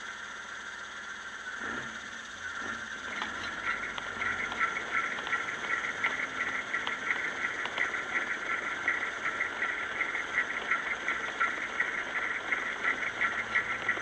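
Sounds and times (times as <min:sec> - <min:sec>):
fluttering engine running: 0:02.5 - 0:14.0.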